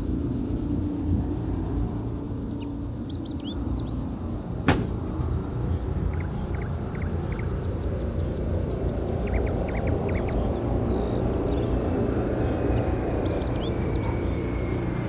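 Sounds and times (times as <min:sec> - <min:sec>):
low rumble of spacecraft rolling: 0:00.0 - 0:15.0
birds chirping: 0:02.3 - 0:15.0.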